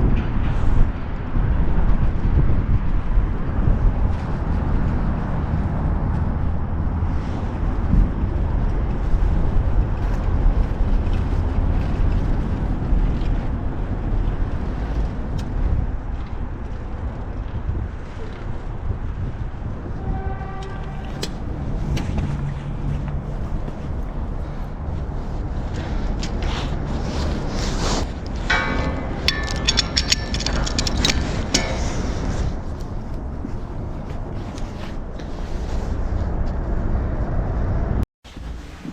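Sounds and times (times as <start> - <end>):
bike road rumble: 0.0 - 38.9
street traffic: 0.0 - 38.9
wind buffeting microphone: 0.0 - 38.9.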